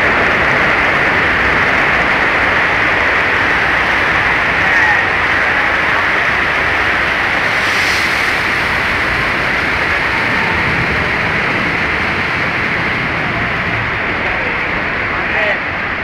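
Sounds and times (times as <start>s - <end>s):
loud steady rushing noise: 0.0s - 16.0s.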